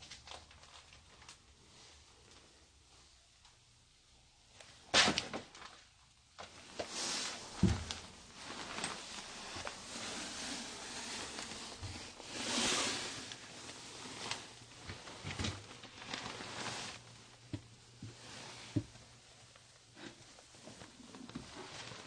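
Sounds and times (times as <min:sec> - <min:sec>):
rustling and handling noise: 0:00.0 - 0:03.7, 0:04.4 - 0:22.0.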